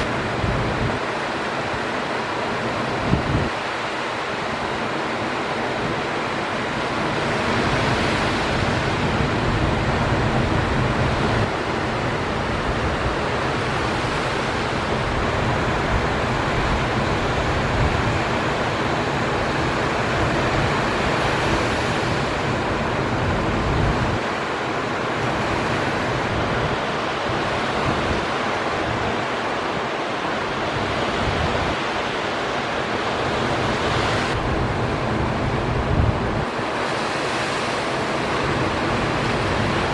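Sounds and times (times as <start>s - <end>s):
wind noise on microphone: 0.0s - 4.9s, 5.6s - 39.9s
ocean surf breaking: 0.0s - 39.9s.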